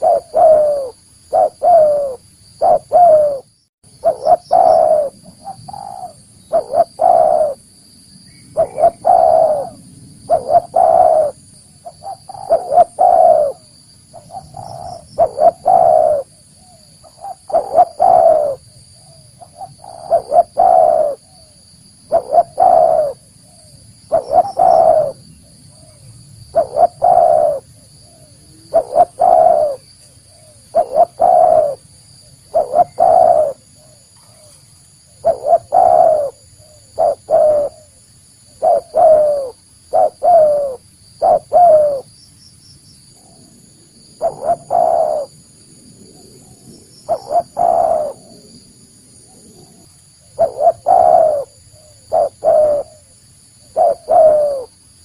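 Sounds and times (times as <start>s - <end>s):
dove cooing: 0.0s - 7.6s, 8.5s - 42.1s, 43.2s - 54.8s.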